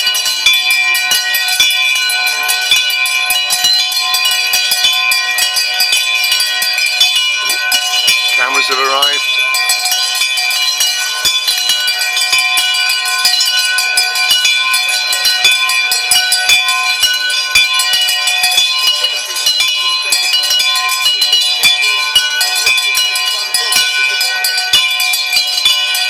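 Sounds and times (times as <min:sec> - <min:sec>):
many bells clanging: 0:00.0 - 0:26.0.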